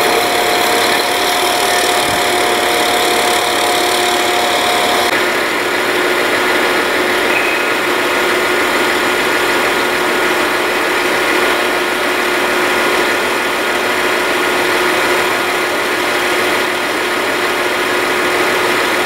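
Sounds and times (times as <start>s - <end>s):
constant whine: 0.0s - 18.0s
train running on track: 0.0s - 19.0s.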